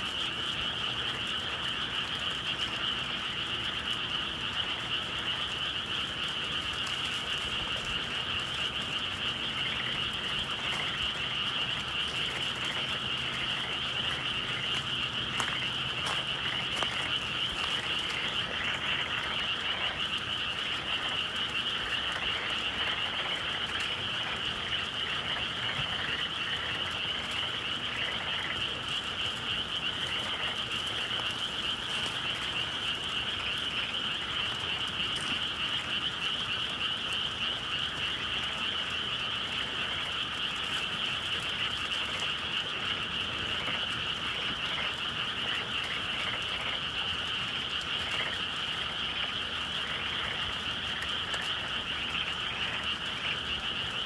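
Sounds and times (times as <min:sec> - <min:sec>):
frogs chorus trilling: 0:00.0 - 0:54.0.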